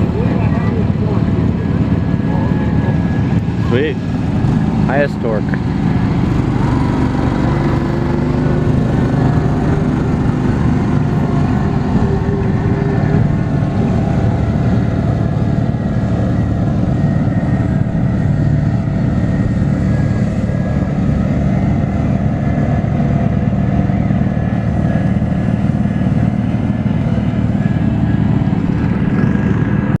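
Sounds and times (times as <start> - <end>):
garden tractor engine running: 0.0 - 30.0.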